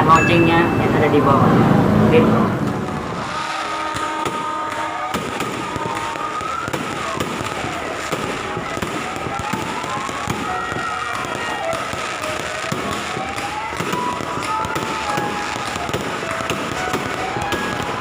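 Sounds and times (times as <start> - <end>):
fireworks popping and crackling: 2.7 - 18.0
whistling fireworks: 2.8 - 18.0.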